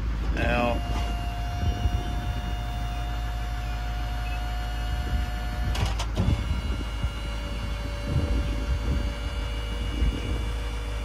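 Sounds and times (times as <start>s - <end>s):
diesel engine idling: 0.0s - 11.0s
thin steady whine: 0.0s - 11.0s.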